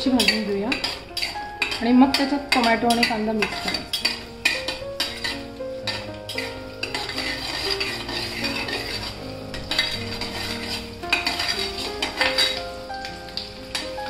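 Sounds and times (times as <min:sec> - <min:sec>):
spatula scraping metal pan: 0:00.0 - 0:13.9
food sizzling in oil: 0:00.0 - 0:14.0.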